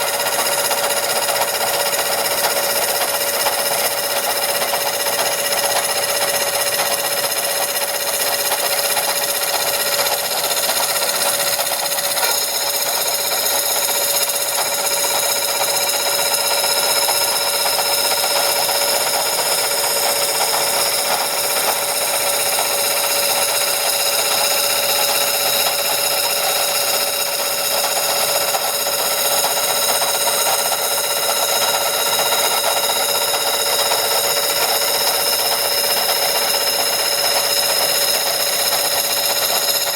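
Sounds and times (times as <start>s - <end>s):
machine tool whining: 0.0s - 39.9s
metal cutting noise: 0.0s - 39.9s.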